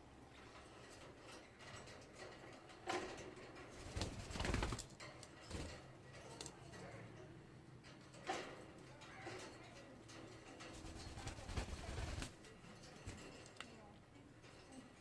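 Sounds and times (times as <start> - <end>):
small movement sounds: 0.0 - 15.0.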